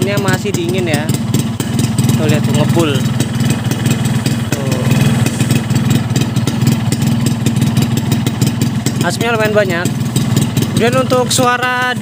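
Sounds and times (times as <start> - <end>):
two-stroke motorcycle engine idling: 0.0 - 12.0.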